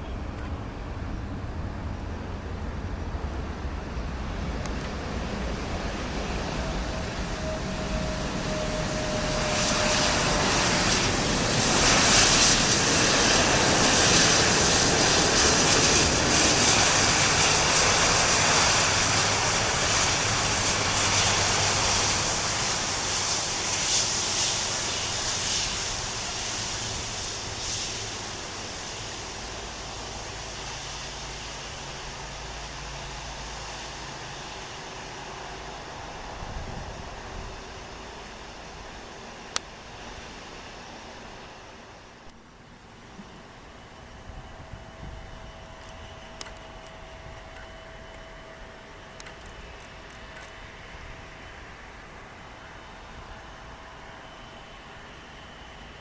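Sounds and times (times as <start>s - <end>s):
jet airliner engines passing: 0.0s - 56.0s.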